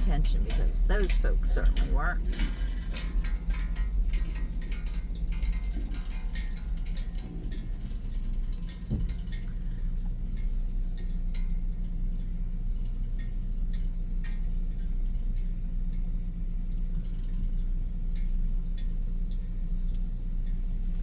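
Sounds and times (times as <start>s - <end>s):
car engine rumble inside cabin: 0.0s - 21.0s
light ticks: 0.0s - 21.0s
low hum: 0.0s - 21.0s.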